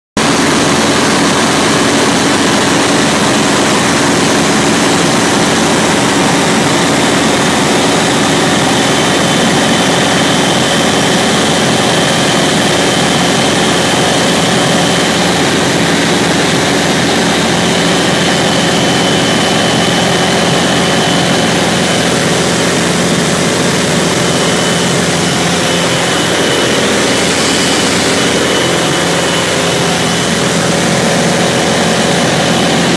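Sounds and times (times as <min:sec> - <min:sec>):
light plane engine and propeller: 0:00.2 - 0:32.9
thin high whine: 0:00.2 - 0:32.9.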